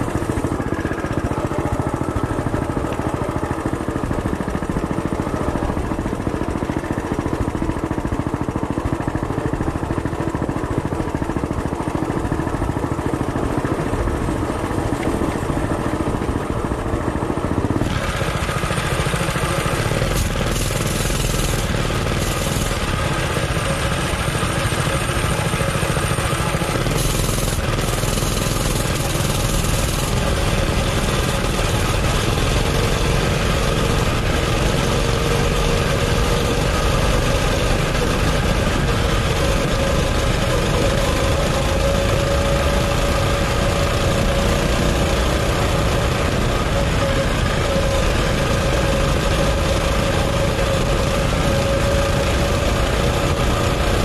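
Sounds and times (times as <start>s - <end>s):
small motorbike engine running: 0.0s - 54.0s.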